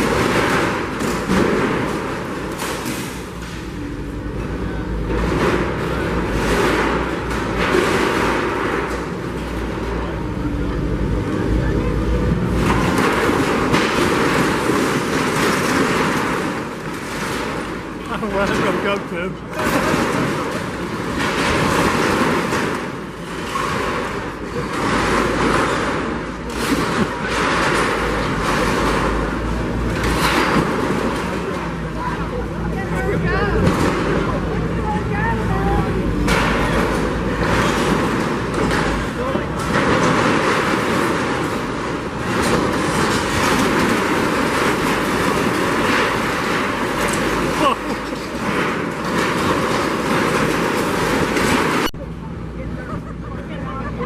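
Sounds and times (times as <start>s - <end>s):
debris crunching and clattering: 0.0s - 52.0s
heavy demolition machinery rumbling: 0.0s - 54.0s.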